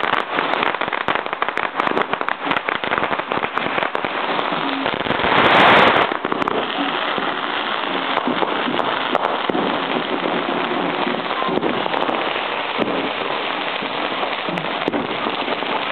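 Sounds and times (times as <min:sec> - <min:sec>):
firecracker pops: 0:00.0 - 0:15.9
fireworks crackling: 0:00.0 - 0:15.9.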